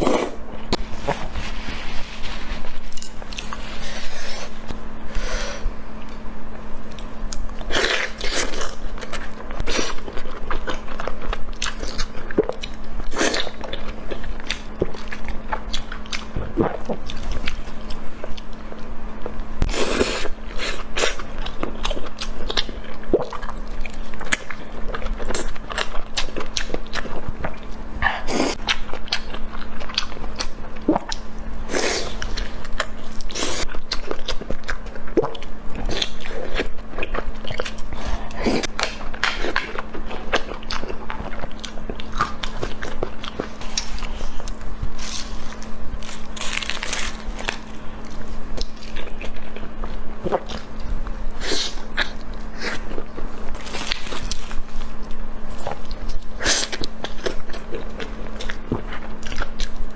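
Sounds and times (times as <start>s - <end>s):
person chewing crunchy food: 0.0s - 4.8s, 6.8s - 59.9s
faint steady hum: 0.0s - 59.9s.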